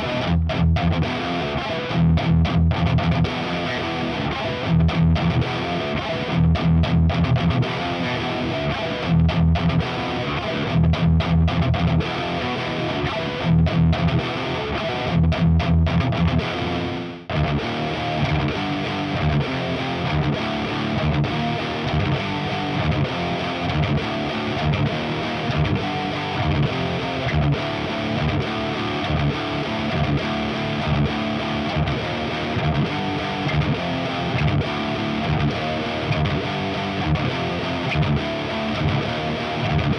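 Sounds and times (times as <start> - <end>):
distorted electric guitar riffing: 0.0 - 39.9.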